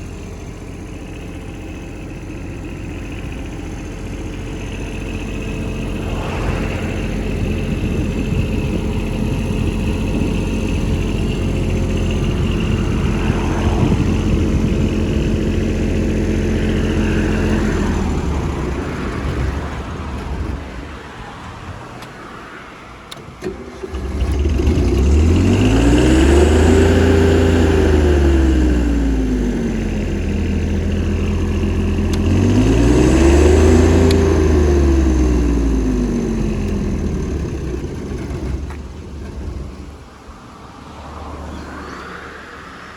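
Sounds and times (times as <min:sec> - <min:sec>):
engine revving: 0:00.0 - 0:20.7, 0:23.4 - 0:42.9
diesel generator engine running: 0:00.0 - 0:22.0, 0:22.9 - 0:40.7.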